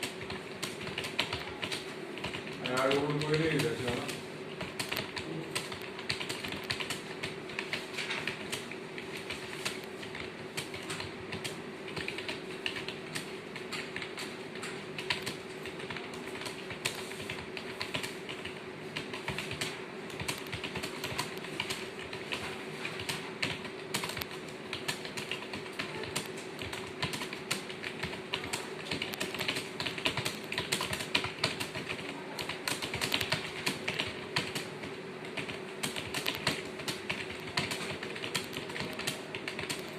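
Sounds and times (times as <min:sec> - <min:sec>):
rapid keyboard typing: 0:00.0 - 0:39.9
steady low hum: 0:00.0 - 0:39.9.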